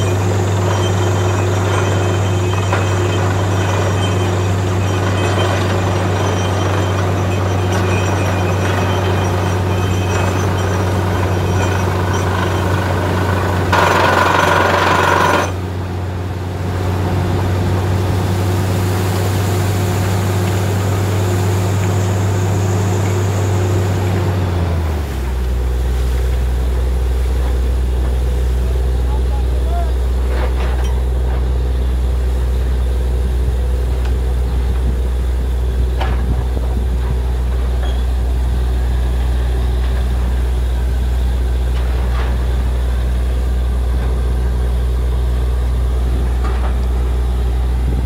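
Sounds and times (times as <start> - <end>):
drilling rig running: 0.0 - 48.0.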